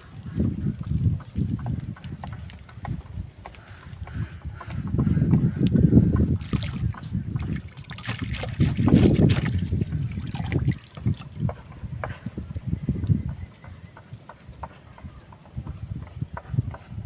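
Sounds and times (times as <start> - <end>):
water sounds: 0.0 - 14.7
wind rumbling on microphone: 0.0 - 17.0.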